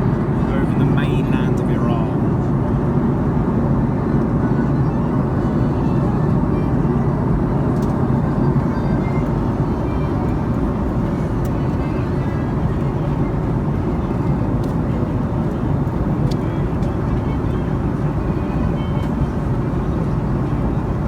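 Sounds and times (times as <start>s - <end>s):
aircraft cabin engine roar: 0.0s - 21.0s.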